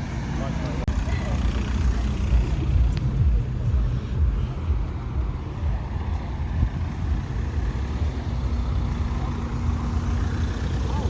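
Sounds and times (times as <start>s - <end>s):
car engines running: 0.0s - 11.0s.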